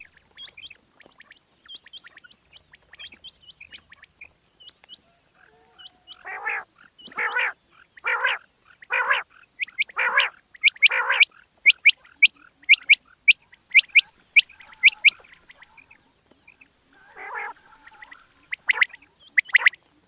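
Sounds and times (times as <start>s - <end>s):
quail calling: 0.0s - 20.0s.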